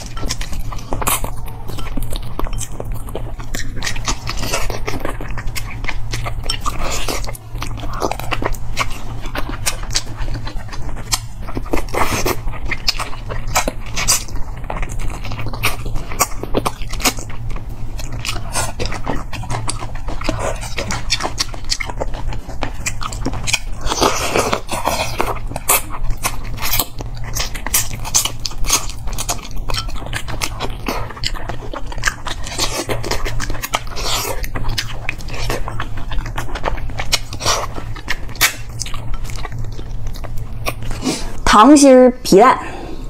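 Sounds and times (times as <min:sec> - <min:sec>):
close chewing and biting: 0:00.0 - 0:42.1
steady low hum: 0:00.0 - 0:43.0.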